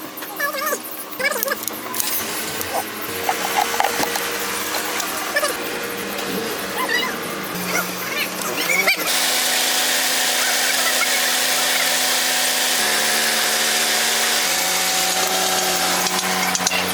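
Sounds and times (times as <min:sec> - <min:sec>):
motor whining and hissing: 0:01.4 - 0:16.9.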